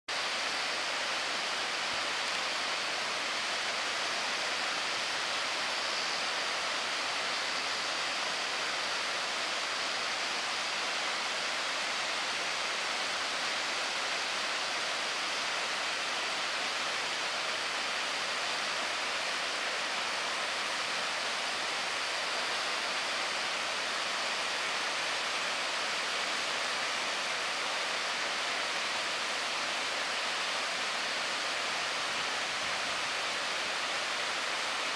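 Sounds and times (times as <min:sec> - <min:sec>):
water rushing down spillway: 0:00.1 - 0:34.9.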